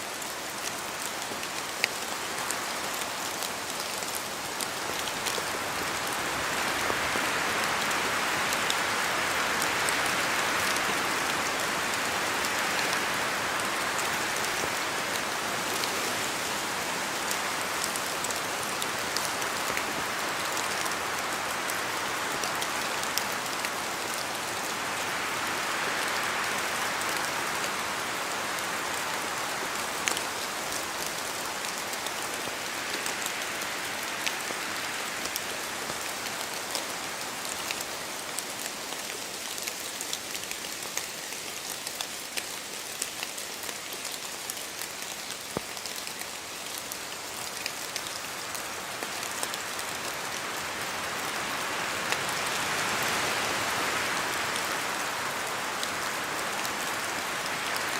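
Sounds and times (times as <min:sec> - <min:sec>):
steady rain: 0:00.0 - 0:57.9
wind rushing through trees: 0:00.0 - 0:57.9.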